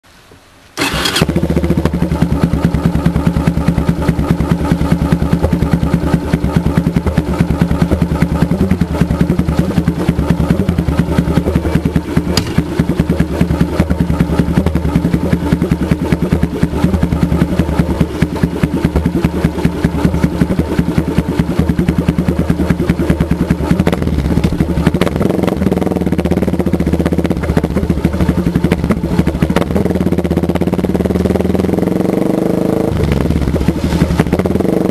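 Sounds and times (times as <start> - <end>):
motorcycle engine starting and idling: 0.8 - 34.9.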